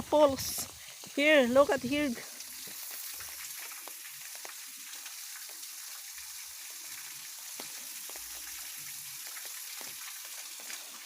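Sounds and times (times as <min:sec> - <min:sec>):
steady rain: 0:00.0 - 0:11.0
water rushing from small cascade: 0:00.0 - 0:11.0.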